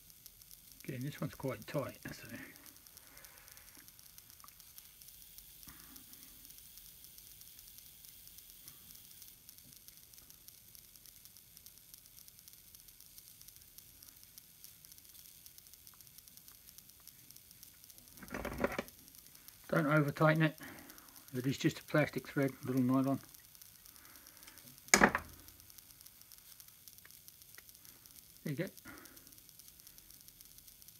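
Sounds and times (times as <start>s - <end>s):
room tone hiss: 0.0s - 30.9s.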